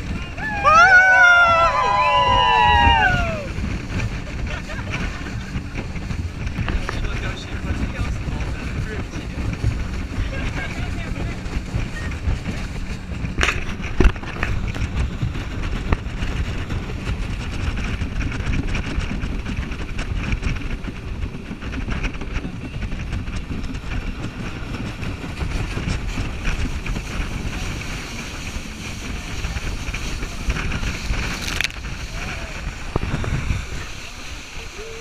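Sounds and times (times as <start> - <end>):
motorboat engine drone: 0.0 - 35.0
water rushing along hull: 0.0 - 35.0
wind buffeting microphone: 0.0 - 35.0.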